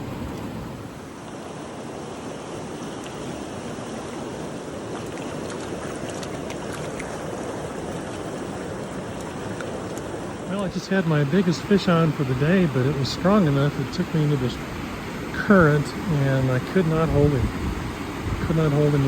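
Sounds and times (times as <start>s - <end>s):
creek rushing: 0.0s - 19.0s.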